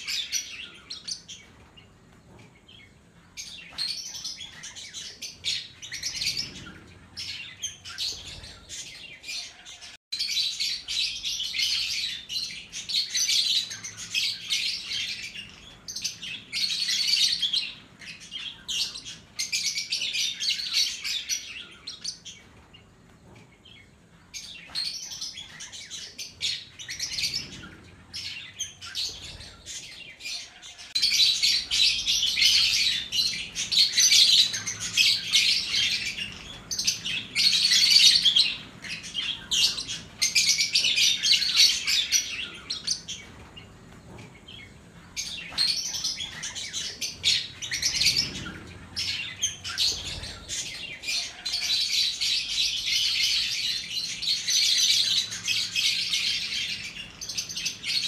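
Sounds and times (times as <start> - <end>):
lovebirds chattering: 0.0 - 58.0.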